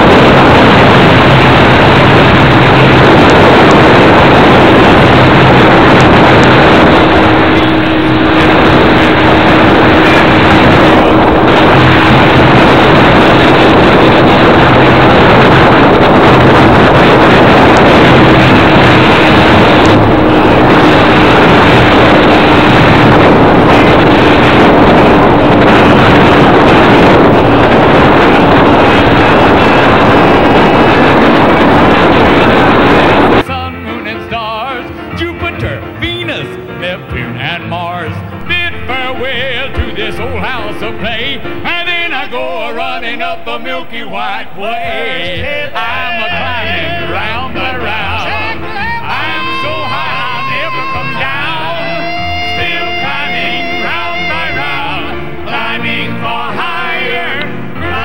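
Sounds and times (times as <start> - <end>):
heavy rushing noise: 0.0 - 58.0
vehicle engine drone: 0.0 - 58.0.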